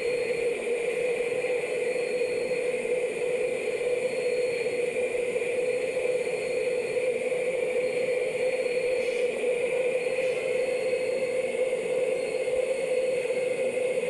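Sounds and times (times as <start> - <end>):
jet engines droning with whine: 0.0 - 14.0.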